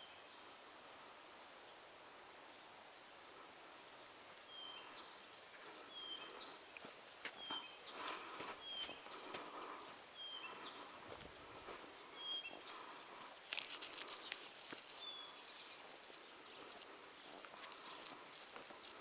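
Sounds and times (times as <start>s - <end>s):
songbirds singing: 0.0s - 0.5s, 3.8s - 19.0s.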